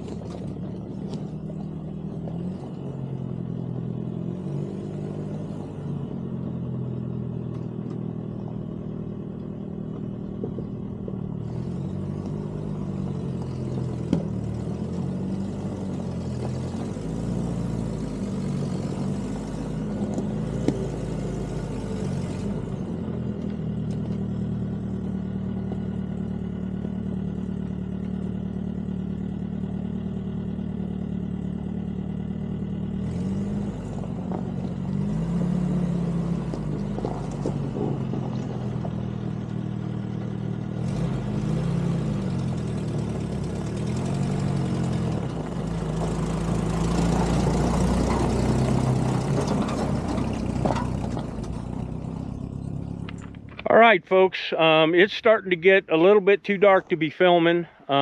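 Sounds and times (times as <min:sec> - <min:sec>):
jeep engine running: 0:00.0 - 0:58.0.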